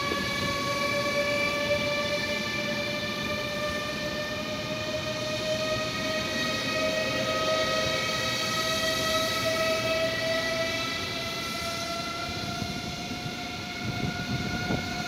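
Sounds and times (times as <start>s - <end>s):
train traction drive whine: 0.0s - 15.0s.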